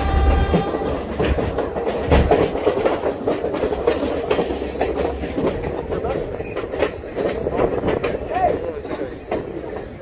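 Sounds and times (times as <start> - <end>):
train rumbling on track: 0.0 - 10.0
wheels clattering over rail joints: 0.0 - 10.0.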